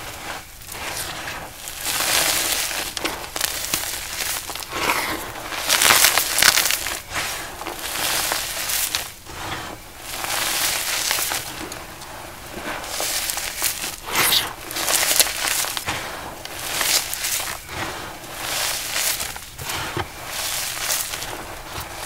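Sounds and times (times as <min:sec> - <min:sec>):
powder blocks crushing and crunching: 0:00.0 - 0:22.0.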